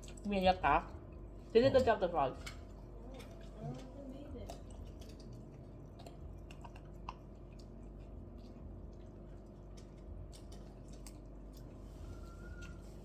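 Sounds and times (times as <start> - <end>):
soft chewing and squelching: 0.0 - 13.0
steady low hum: 0.0 - 13.0.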